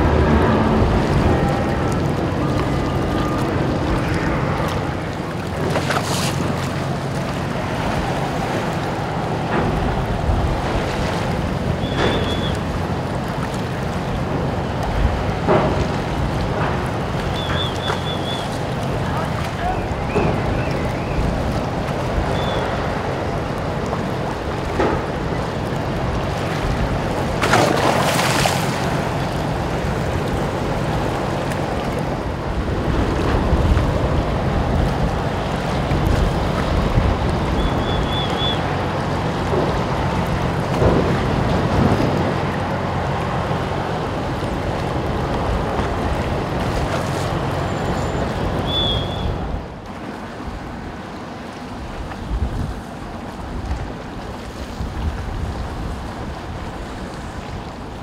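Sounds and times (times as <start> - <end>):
wind buffeting microphone: 0.0 - 17.8, 18.6 - 47.6, 51.8 - 58.0
ferry engines humming: 0.0 - 58.0
waves at quay: 0.0 - 58.0.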